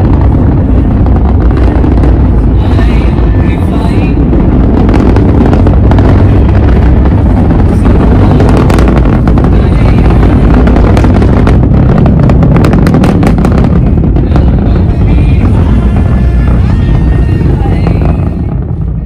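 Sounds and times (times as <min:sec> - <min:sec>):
rocket engines rumbling and crackling: 0:00.0 - 0:19.0.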